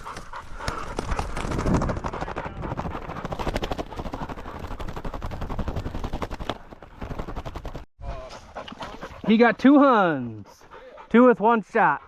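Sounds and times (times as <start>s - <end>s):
dog panting: 0.0s - 7.4s, 8.3s - 12.0s.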